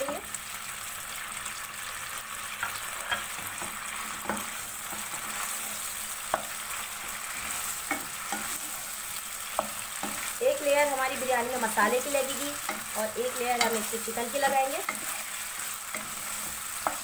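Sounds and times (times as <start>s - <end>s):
chicken sizzling in pan: 0.0s - 17.0s
spoon scraping against pan: 2.5s - 17.0s.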